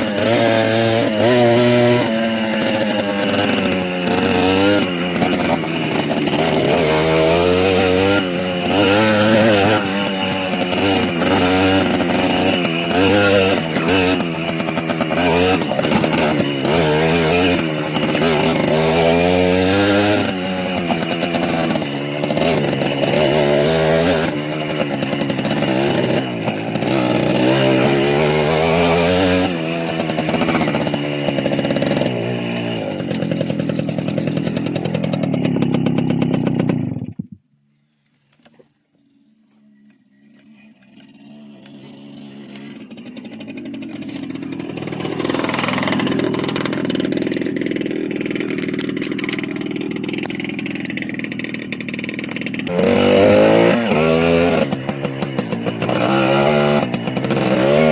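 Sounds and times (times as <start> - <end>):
small motorbike engine revving: 0.0 - 37.4, 38.3 - 57.9.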